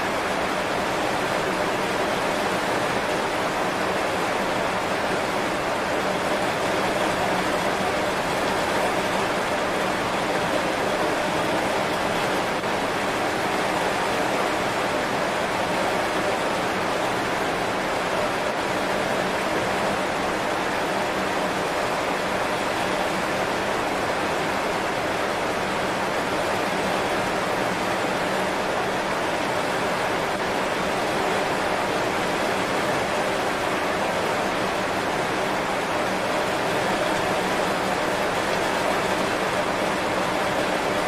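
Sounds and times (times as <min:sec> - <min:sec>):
heavy rain on leaves: 0:00.0 - 0:41.0.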